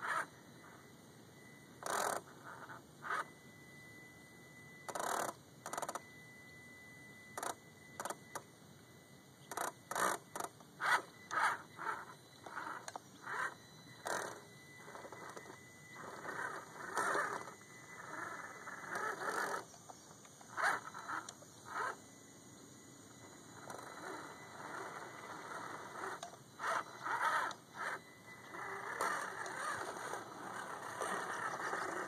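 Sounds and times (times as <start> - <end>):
toy truck motor whirring: 0.0 - 0.8, 1.8 - 3.5, 4.8 - 6.2, 7.3 - 8.5, 9.5 - 19.8, 20.4 - 22.0, 23.1 - 32.0.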